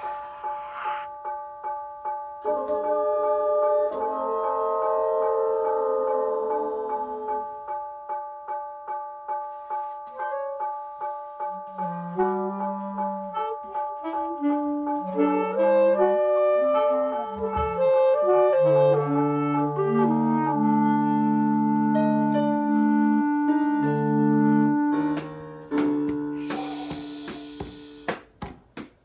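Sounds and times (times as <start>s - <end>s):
clarinets playing: 0.0s - 8.6s, 9.4s - 25.6s, 26.2s - 28.2s
piano playing: 0.0s - 28.4s
alto saxophone playing: 2.4s - 7.7s, 10.0s - 28.1s.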